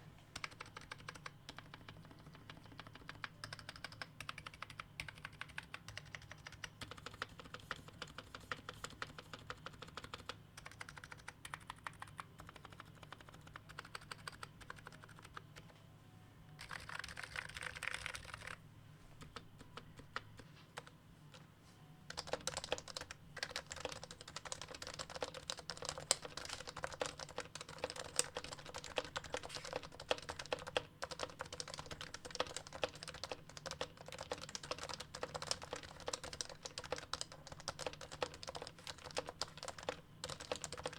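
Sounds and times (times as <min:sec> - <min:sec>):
keyboard typing: 0:00.3 - 0:15.8, 0:16.5 - 0:18.6, 0:19.2 - 0:40.9.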